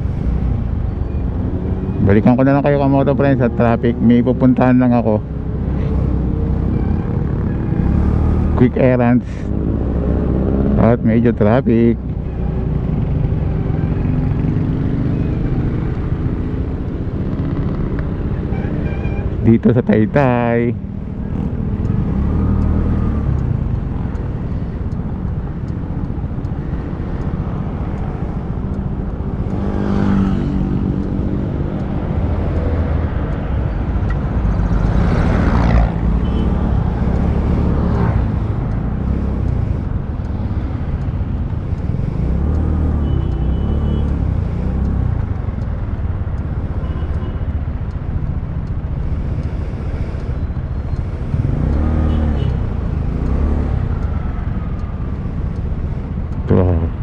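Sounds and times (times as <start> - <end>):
road traffic: 0.0 - 57.0.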